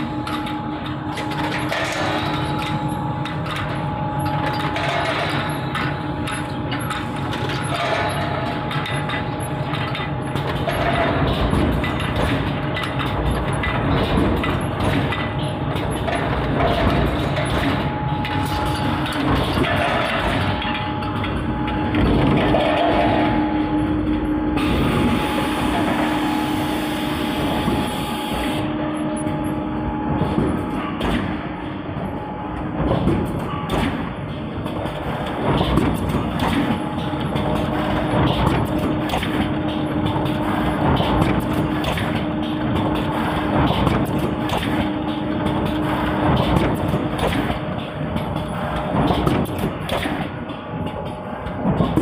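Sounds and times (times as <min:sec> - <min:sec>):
rapid clicks and knocks: 0:00.0 - 0:23.4, 0:32.8 - 0:52.0
machine clattering: 0:00.0 - 0:26.2, 0:32.6 - 0:52.0
steady machine hum: 0:00.0 - 0:52.0.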